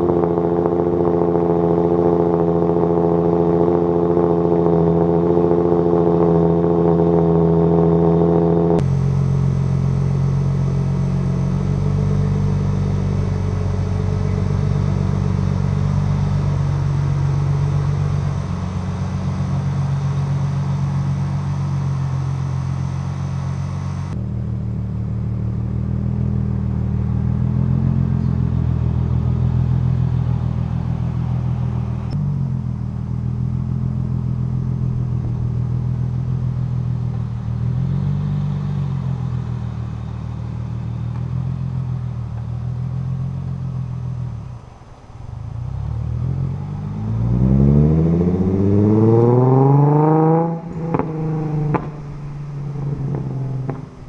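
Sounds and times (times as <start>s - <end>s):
exhaust crackles and pops: 0.0s - 24.2s, 29.9s - 54.0s
car engine idling and revving: 0.0s - 54.0s.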